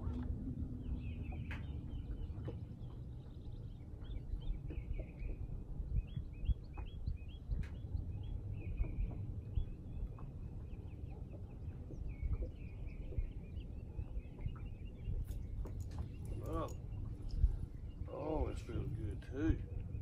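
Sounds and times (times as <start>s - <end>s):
low background rumble: 0.0s - 20.0s
songbirds singing: 0.1s - 20.0s.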